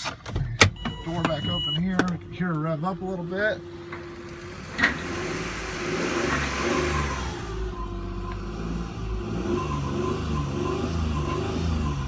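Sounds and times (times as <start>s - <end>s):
car engine revving: 0.8s - 12.0s.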